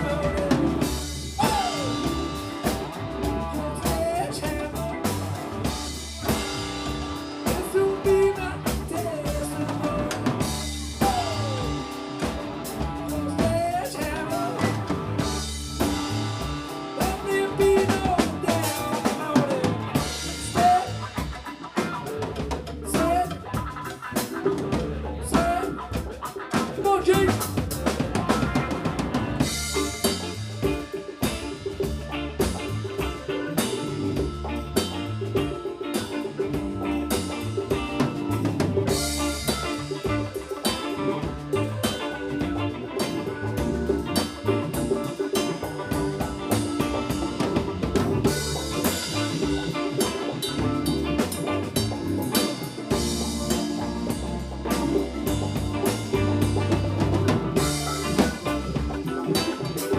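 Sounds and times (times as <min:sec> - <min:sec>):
drum kit beat: 0:00.0 - 0:59.9
funk band playing: 0:00.0 - 0:59.9.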